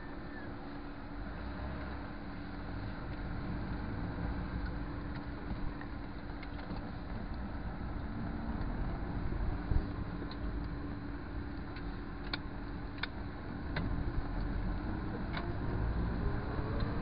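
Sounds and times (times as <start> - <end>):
car engine running from inside: 0.0 - 17.0.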